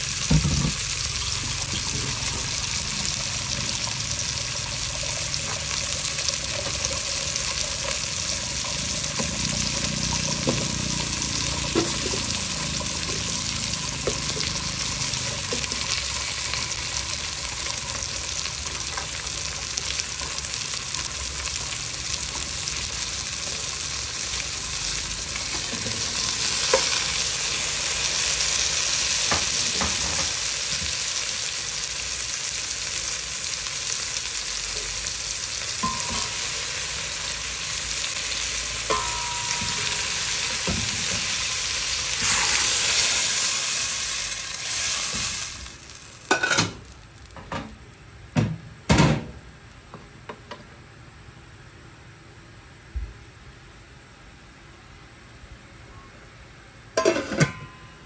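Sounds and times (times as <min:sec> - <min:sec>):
vegetables sizzling in a pot: 0:00.0 - 0:51.4, 0:56.8 - 0:58.0.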